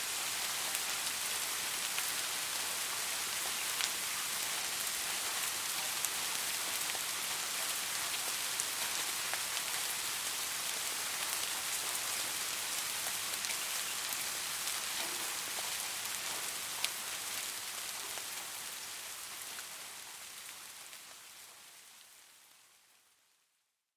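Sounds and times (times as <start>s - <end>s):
soft rain falling: 0.0s - 23.7s.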